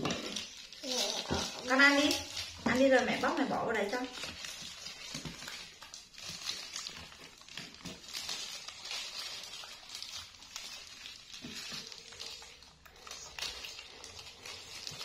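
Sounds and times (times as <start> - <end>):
plastic gloves crinkling: 0.0 - 15.0.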